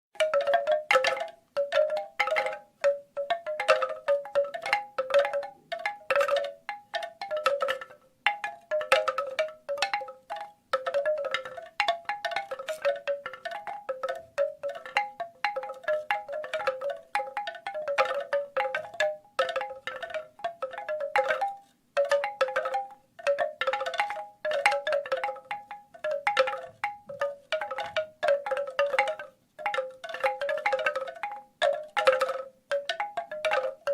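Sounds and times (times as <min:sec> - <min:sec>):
bamboo wind chimes clacking: 0:00.2 - 0:33.9.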